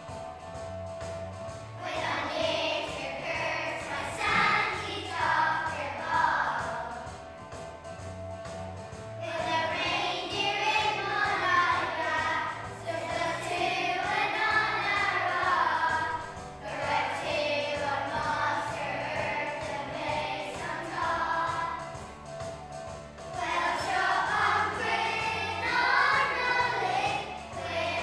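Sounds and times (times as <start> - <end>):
backing track with bass line: 0.0 - 28.0
children's choir singing: 1.8 - 7.2, 9.2 - 22.2, 23.3 - 28.0.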